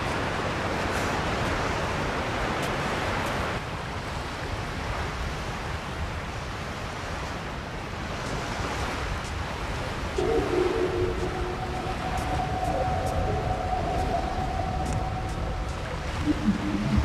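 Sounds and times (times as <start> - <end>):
waves breaking: 0.0 - 17.0
wind rumble on microphone: 0.0 - 17.0.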